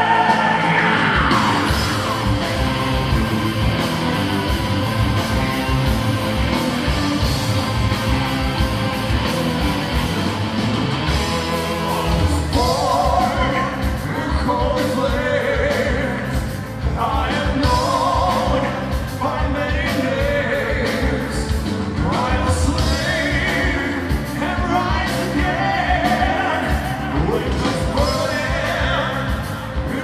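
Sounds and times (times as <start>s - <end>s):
guitars: 0.0s - 30.0s
steady drum beat: 0.0s - 30.0s.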